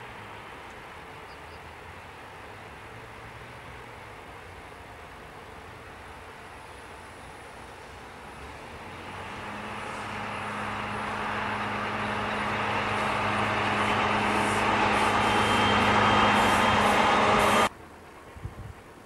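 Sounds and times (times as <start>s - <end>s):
locomotive engine hum: 0.0s - 19.0s
train rail noise: 0.0s - 19.0s.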